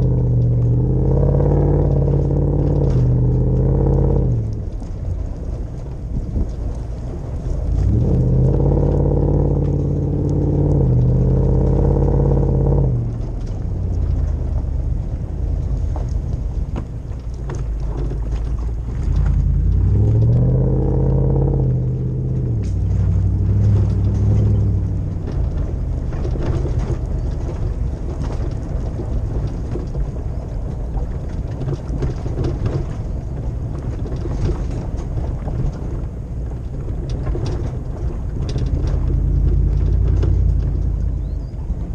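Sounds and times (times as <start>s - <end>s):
engine revving with exhaust rumble: 0.0s - 41.9s.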